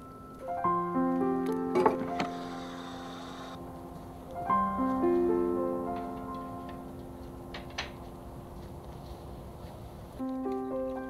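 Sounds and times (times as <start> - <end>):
soft piano arpeggio: 0.0 - 8.9, 10.2 - 11.0.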